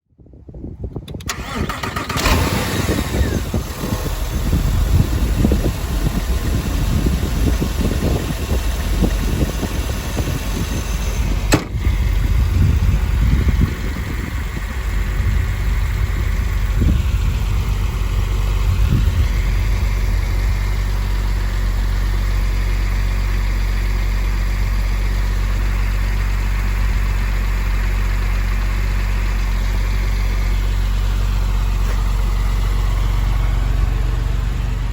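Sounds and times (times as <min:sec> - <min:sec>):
car engine cold-starting and idling: 0:00.6 - 0:34.9.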